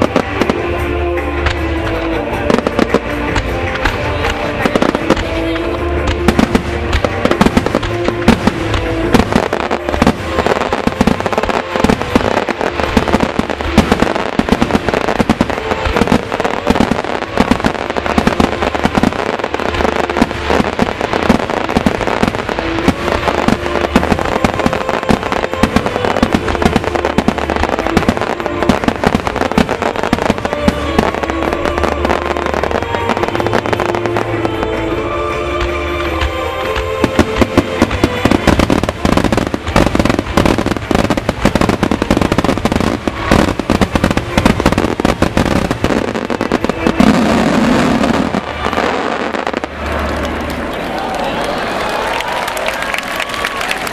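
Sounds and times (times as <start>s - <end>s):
fireworks bursting: 0.0s - 53.9s
fireworks crackling: 0.0s - 53.9s.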